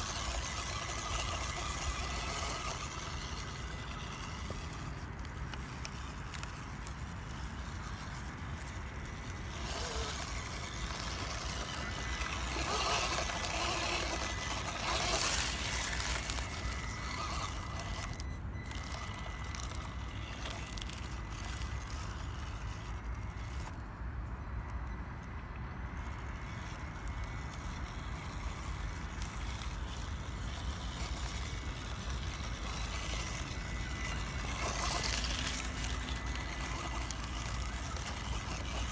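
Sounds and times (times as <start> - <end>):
electric motor whine: 0.0 - 23.8, 25.9 - 38.9
toy car grinding over ground: 0.0 - 38.9.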